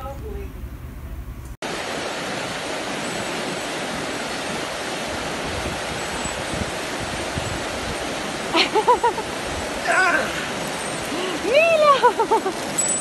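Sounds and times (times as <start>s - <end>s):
creek rapids rushing: 1.6s - 13.0s.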